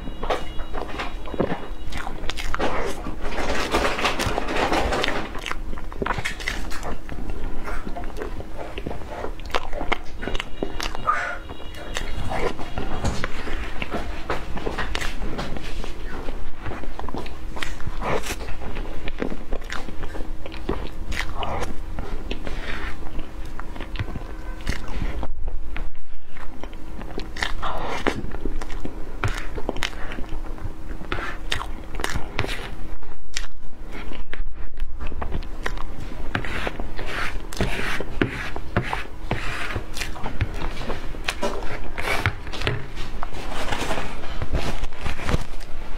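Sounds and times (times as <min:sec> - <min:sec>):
chewing soft cake: 0:00.0 - 0:45.9.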